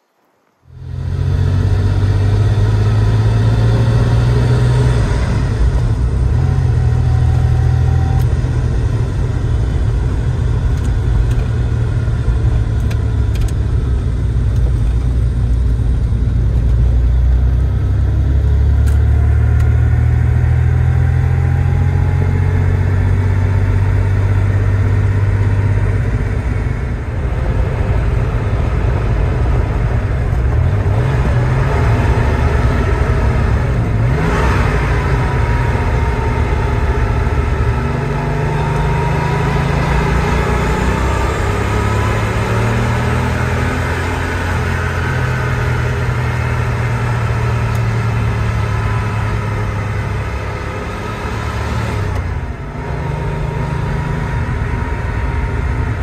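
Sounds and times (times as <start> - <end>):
car engine rumble inside cabin: 0.7 - 56.0.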